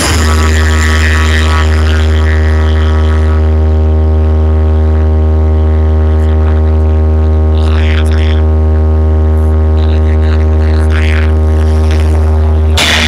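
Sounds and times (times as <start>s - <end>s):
deep bass test tone: 0.0s - 13.0s.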